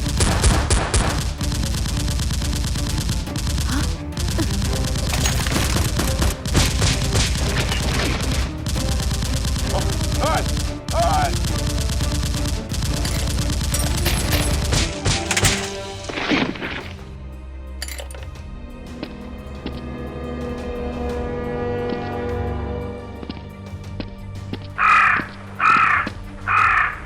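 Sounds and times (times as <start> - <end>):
background music: 0.0 - 27.0.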